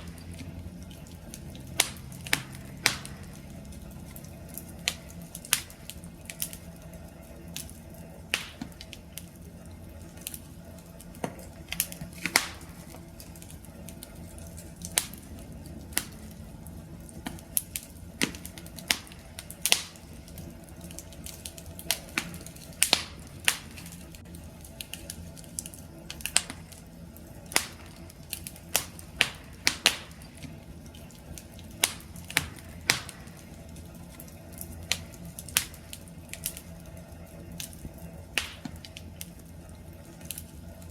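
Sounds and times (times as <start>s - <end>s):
burning wood crackling and popping: 0.0s - 40.9s
wood fire rumbling: 0.0s - 40.9s.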